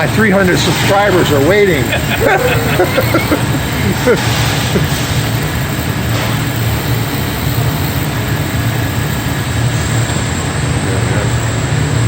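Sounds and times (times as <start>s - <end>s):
machinery hiss: 0.0s - 12.0s
machinery hum: 0.0s - 12.0s.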